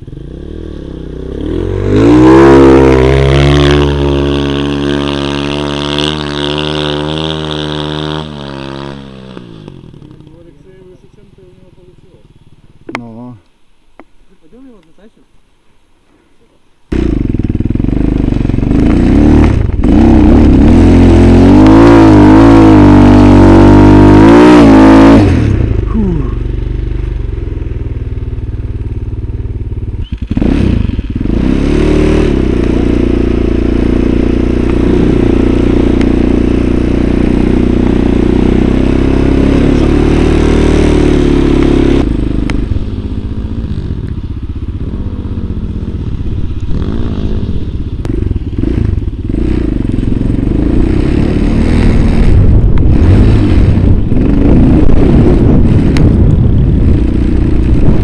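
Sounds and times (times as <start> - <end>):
motorcycle engine revving: 0.0 - 13.4, 16.9 - 58.0.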